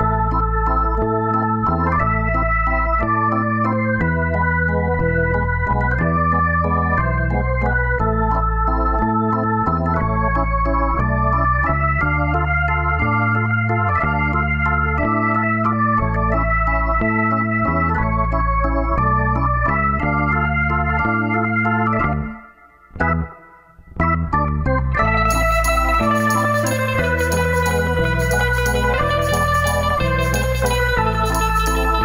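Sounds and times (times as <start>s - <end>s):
organ-like keyboard music: 0.0s - 32.0s.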